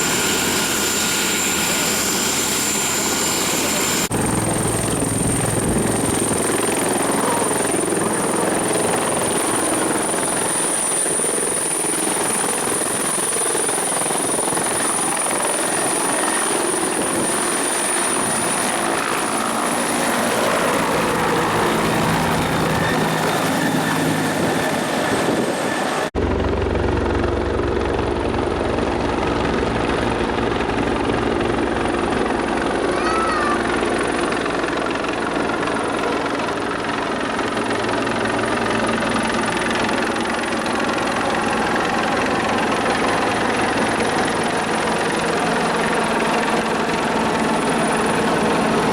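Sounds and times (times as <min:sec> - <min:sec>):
helicopter rotor and engine rumble: 0:00.0 - 0:48.9
helicopter turbine whine: 0:00.0 - 0:48.9.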